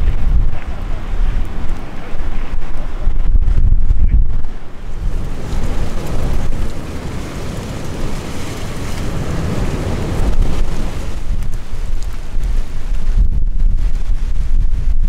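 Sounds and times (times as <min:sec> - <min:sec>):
strong wind gusting on microphone: 0:00.0 - 0:15.0.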